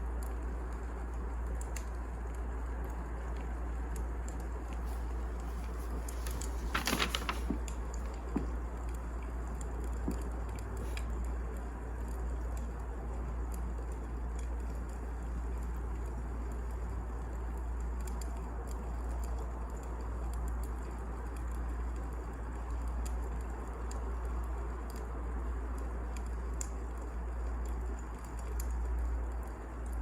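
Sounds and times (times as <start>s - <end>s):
low fire rumble: 0.0s - 30.0s.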